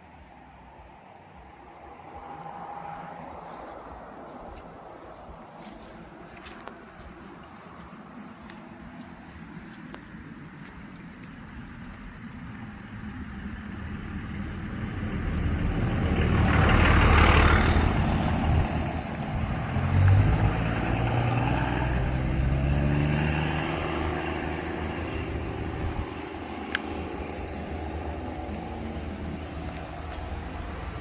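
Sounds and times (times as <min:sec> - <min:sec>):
vehicle engine passing by: 0:01.4 - 0:31.0.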